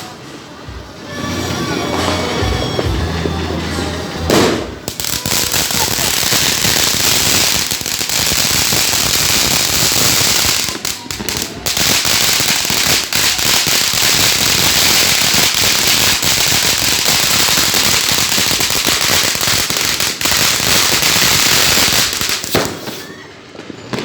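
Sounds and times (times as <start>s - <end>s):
fireworks fountain hissing and crackling: 0.0s - 24.0s.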